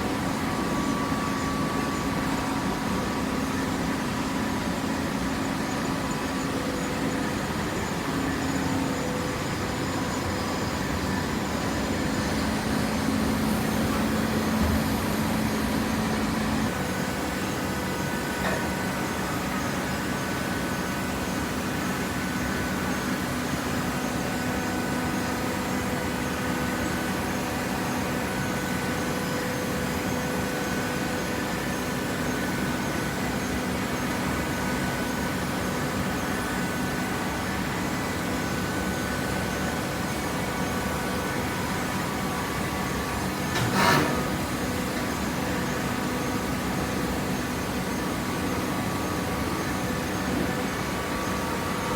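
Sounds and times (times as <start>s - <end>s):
hydraulic baler machine drone: 0.0s - 51.9s.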